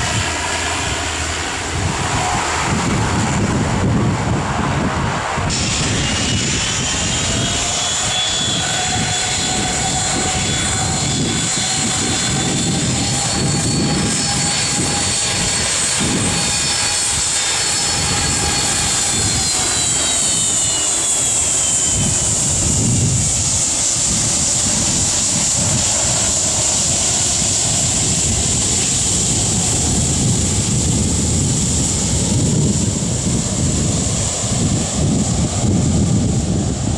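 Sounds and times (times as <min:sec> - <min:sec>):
jet engines whining: 0:00.0 - 0:36.9
wind rumbling on microphone: 0:00.0 - 0:36.9.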